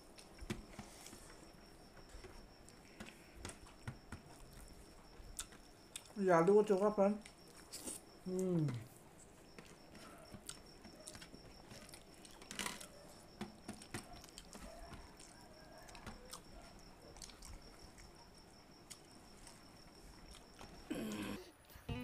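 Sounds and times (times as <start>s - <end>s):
chewing: 0.1s - 6.2s, 6.8s - 21.4s.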